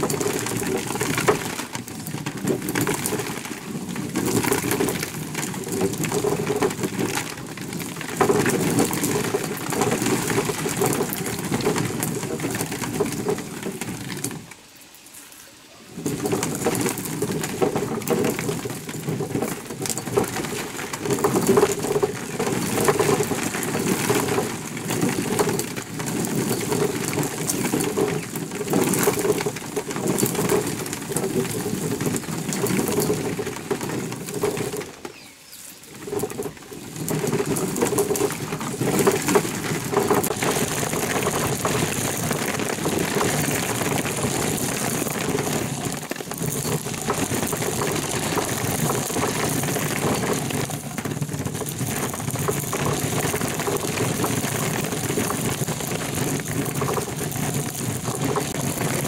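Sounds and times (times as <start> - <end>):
stone mill grinding corn: 0.0 - 14.6, 15.9 - 59.0.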